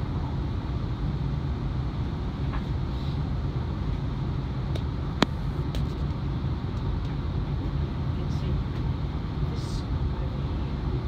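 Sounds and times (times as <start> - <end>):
tram interior hum: 0.0 - 11.0.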